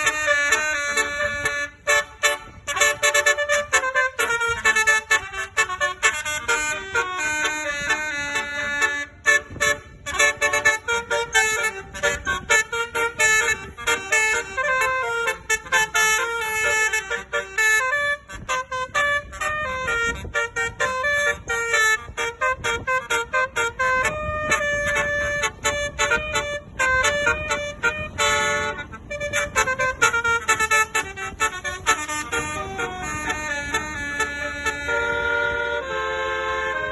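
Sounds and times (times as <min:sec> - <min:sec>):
multi-tone bus horn melody: 0:00.0 - 0:36.9.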